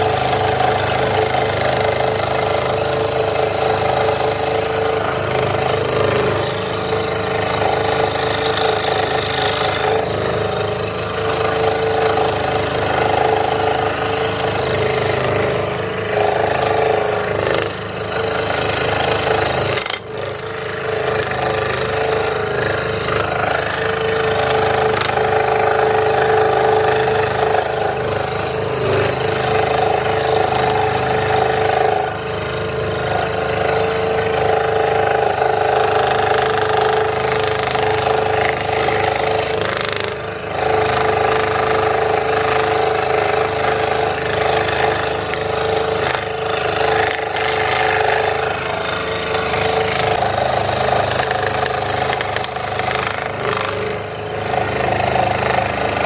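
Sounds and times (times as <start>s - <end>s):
scroll saw cutting wood: 0.0s - 56.0s.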